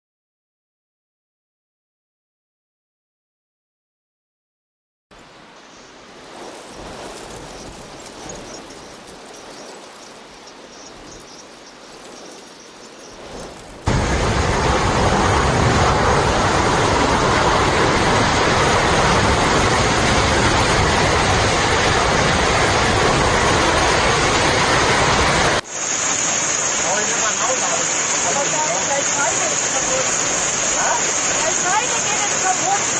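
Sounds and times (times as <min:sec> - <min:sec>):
heavy rain falling: 0:05.2 - 0:32.9.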